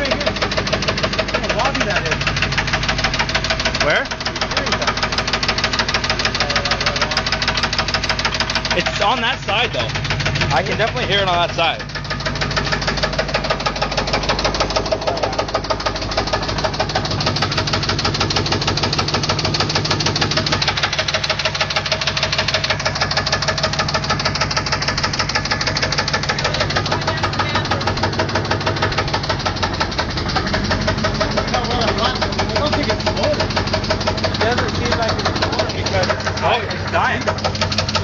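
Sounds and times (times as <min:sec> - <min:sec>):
car engine running: 0:00.0 - 0:38.0
fast regular engine knock: 0:00.0 - 0:38.0.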